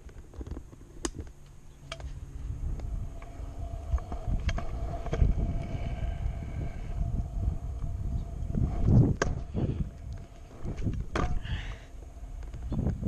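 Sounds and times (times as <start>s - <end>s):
scooter wheels rumbling: 0.0s - 13.0s
steady whine: 0.0s - 13.0s
wind on microphone: 2.3s - 13.0s.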